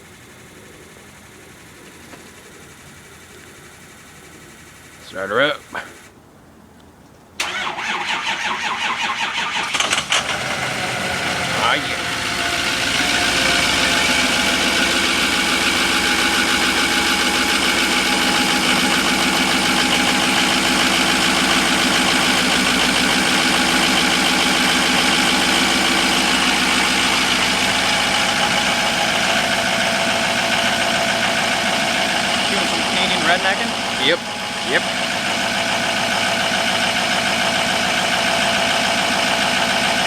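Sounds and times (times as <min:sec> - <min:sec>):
diesel van engine idling: 0:07.4 - 0:40.0.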